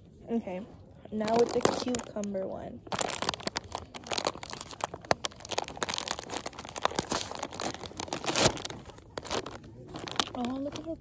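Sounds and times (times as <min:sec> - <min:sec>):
foil chip bag crinkling: 0:01.1 - 0:11.0.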